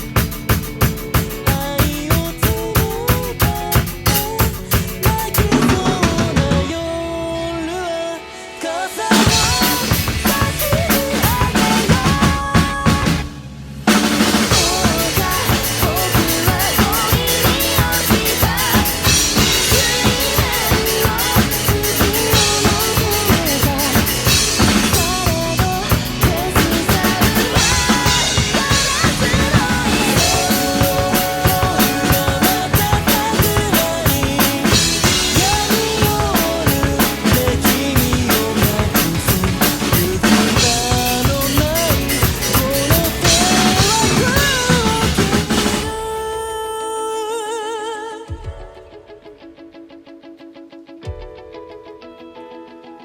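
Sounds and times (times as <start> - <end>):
drum kit playing: 0.0 - 46.4
rock backing track: 0.0 - 46.6, 48.2 - 53.0.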